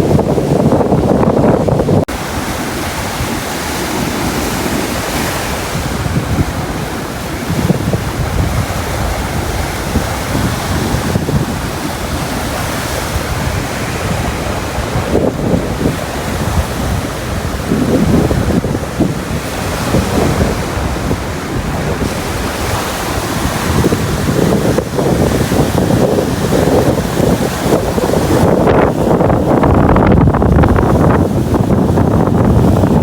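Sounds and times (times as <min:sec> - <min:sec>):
surf breaking against breakwater: 0:00.0 - 0:33.0
wind buffeting microphone: 0:00.0 - 0:33.0.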